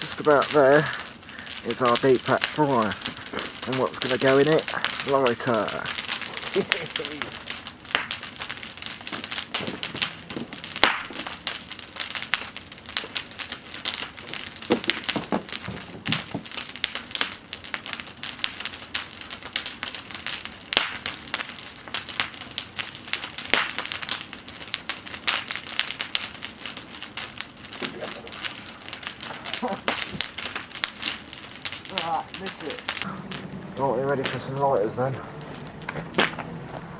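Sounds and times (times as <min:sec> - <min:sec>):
bonfire crackling and popping: 0:00.0 - 0:36.9.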